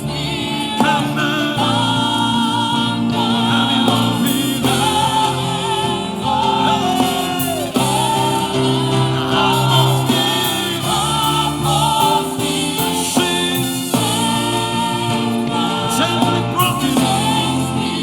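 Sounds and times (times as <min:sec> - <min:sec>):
band keyboard and bass: 0:00.0 - 0:18.0
choir and congregation singing: 0:00.0 - 0:18.0.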